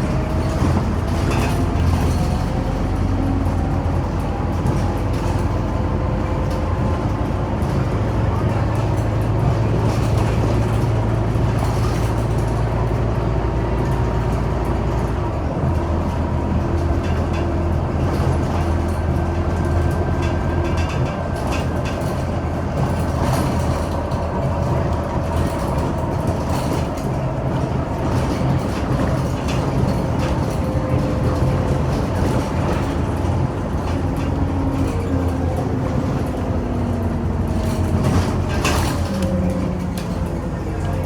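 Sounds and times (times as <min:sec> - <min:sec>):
bus engine hum: 0:00.0 - 0:41.0
road noise: 0:00.0 - 0:41.0.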